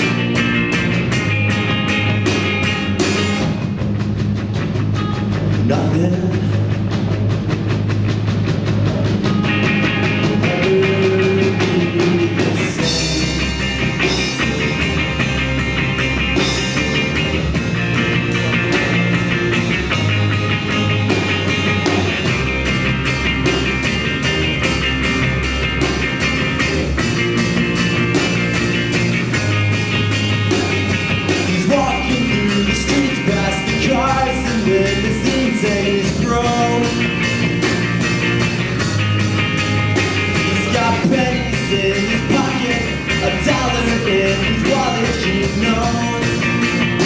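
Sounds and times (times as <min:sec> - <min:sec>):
live rock band playing: 0:00.0 - 0:47.0.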